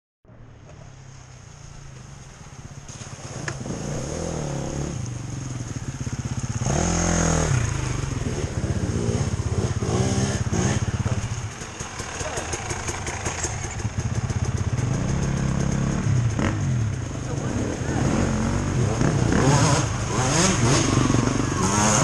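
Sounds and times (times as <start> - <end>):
dirt bike engine hum: 0.3 - 22.0
dirt bike revving: 2.9 - 22.0.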